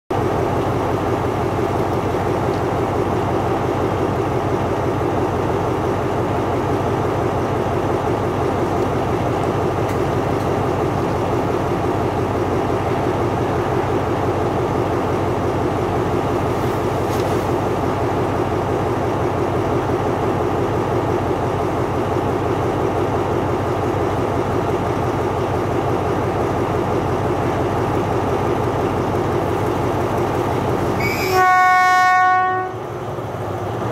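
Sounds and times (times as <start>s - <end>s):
diesel locomotive idling: 0.1s - 33.9s.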